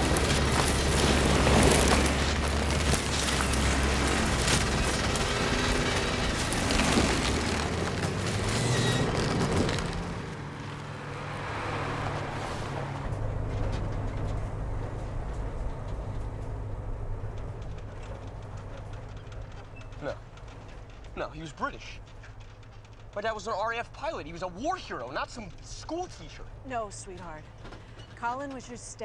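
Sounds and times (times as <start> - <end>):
truck engine humming: 0.0 - 29.0.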